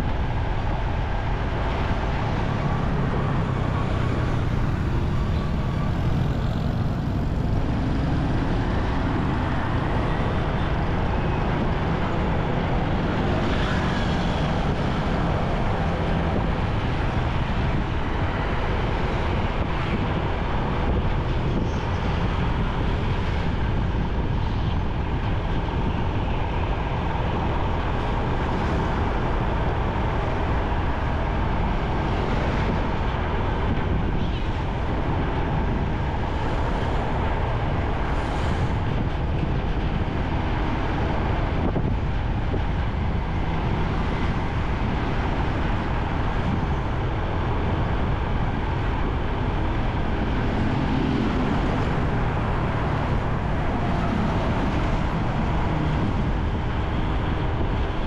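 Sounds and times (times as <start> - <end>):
traffic and road noise: 0.0 - 58.0.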